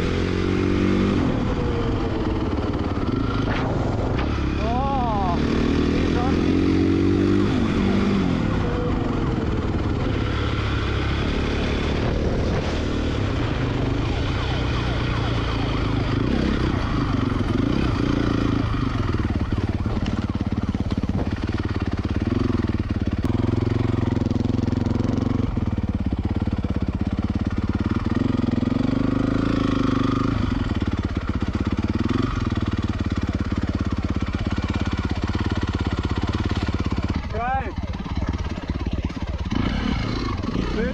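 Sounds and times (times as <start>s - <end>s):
dirt bike engines revving: 0.0s - 25.5s, 31.6s - 40.9s.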